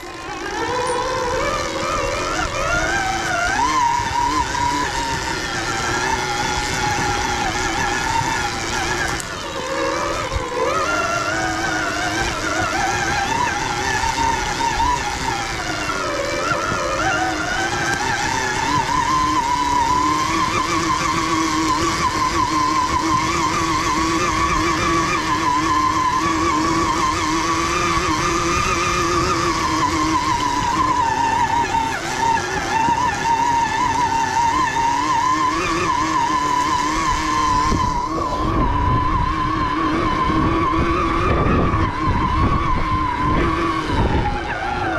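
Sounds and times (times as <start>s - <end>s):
bike tyres rumbling on dirt: 0.0s - 44.9s
bike whine: 0.0s - 44.9s.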